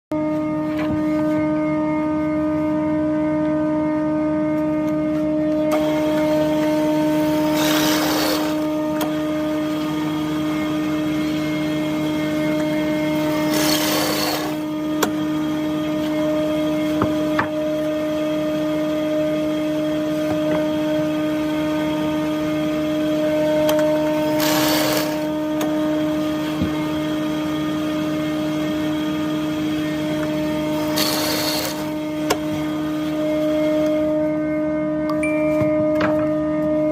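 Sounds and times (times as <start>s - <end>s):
woodworking machine humming: 0.2s - 35.1s.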